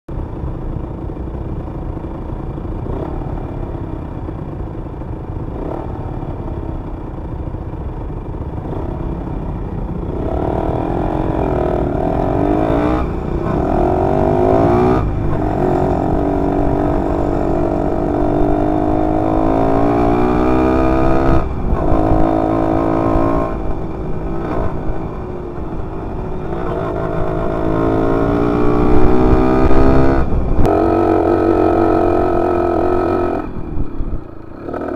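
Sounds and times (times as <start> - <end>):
motorcycle engine revving: 0.9 - 34.9.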